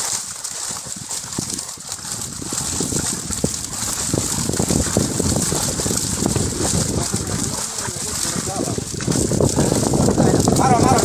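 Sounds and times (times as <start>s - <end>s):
fish splashing in a net: 0.0s - 11.0s.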